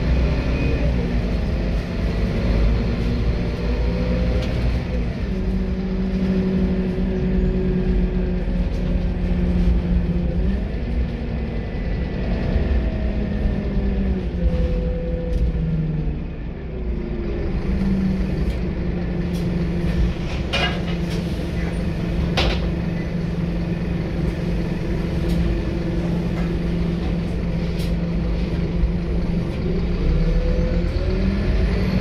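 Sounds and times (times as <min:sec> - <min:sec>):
bus engine from inside: 0:00.0 - 0:32.0.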